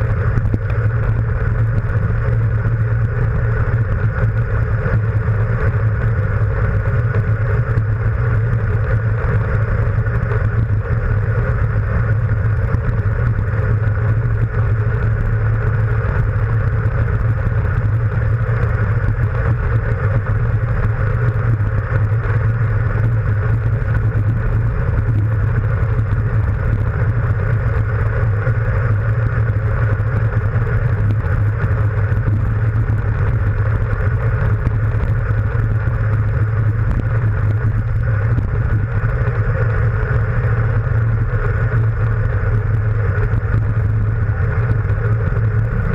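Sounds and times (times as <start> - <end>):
wind rush and low rumble: 0.0 - 45.9.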